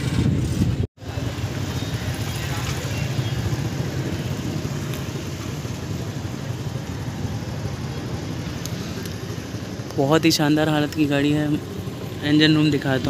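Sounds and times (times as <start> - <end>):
car engine idling: 1.0 - 13.0.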